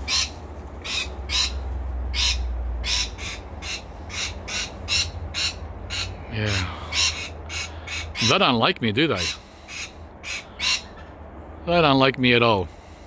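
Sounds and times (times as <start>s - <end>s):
parrots squawking: 0.0s - 8.4s, 9.1s - 11.2s.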